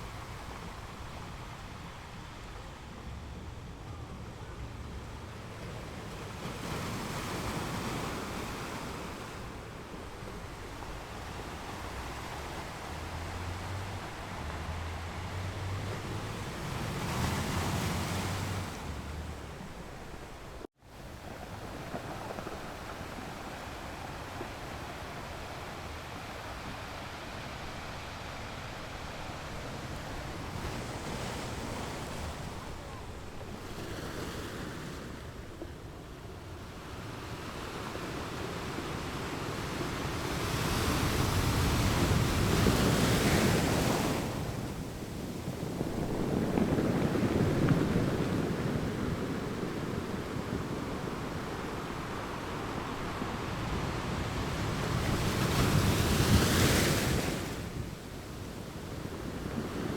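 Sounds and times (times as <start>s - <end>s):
ocean waves breaking on a beach: 0.0s - 59.9s.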